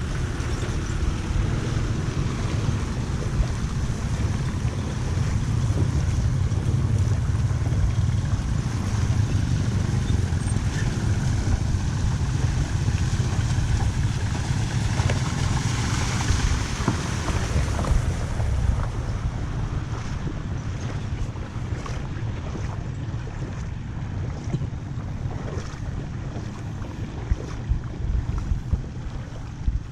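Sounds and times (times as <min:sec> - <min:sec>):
floodwater rushing through drain: 0:00.0 - 0:29.9.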